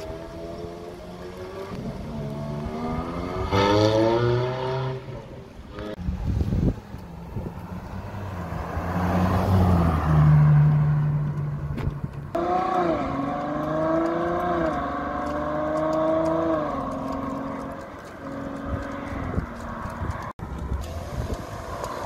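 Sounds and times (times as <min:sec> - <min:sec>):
sports car engine accelerating: 0:00.0 - 0:06.0, 0:07.3 - 0:22.0.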